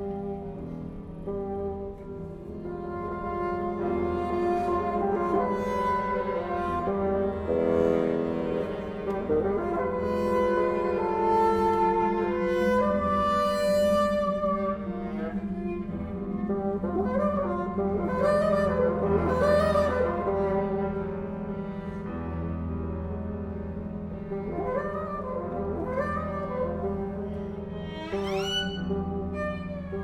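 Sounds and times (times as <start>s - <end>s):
chamber ensemble with bassoon: 0.0s - 30.0s.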